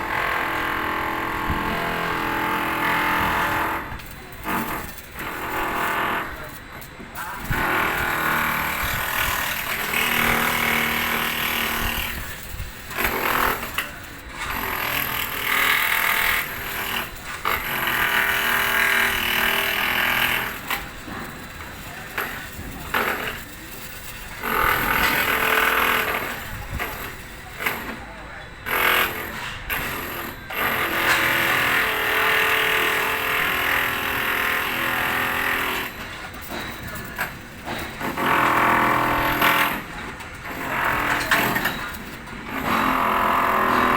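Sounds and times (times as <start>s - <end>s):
welding arc crackling and sizzling: 0.0s - 30.0s, 30.6s - 43.9s.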